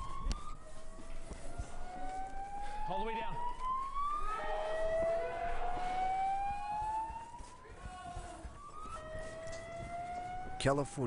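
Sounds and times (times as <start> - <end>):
alarm siren wailing: 0.0 - 11.0.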